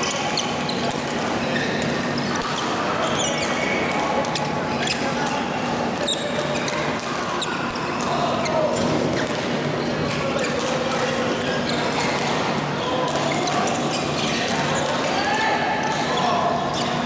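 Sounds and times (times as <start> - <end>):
distant voices in echoing hall: 0.0 - 17.0.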